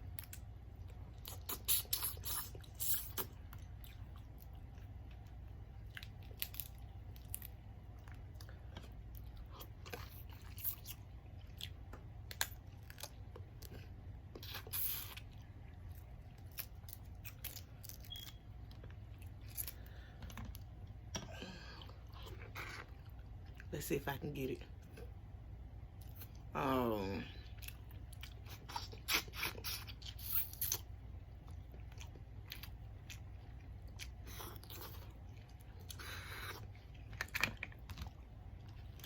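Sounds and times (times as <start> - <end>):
chewing and crunching: 0.0 - 23.7, 27.2 - 39.0
steady low hum: 0.0 - 39.0.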